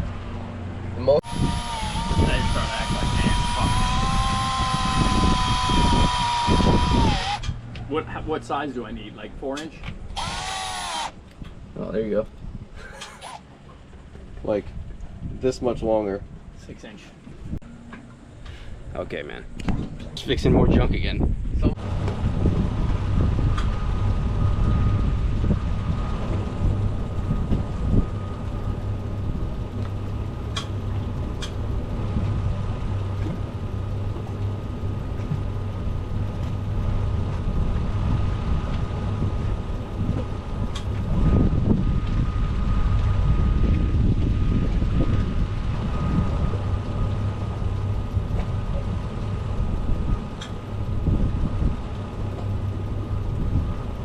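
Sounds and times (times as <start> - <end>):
engine running with low rumble: 0.0 - 54.0
wind buffeting microphone: 1.2 - 7.7, 11.3 - 12.9, 14.2 - 17.6, 18.8 - 54.0.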